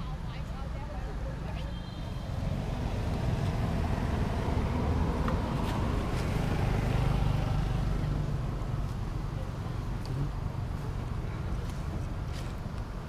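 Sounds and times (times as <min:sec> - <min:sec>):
passing vehicles rumbling: 0:00.0 - 0:13.0.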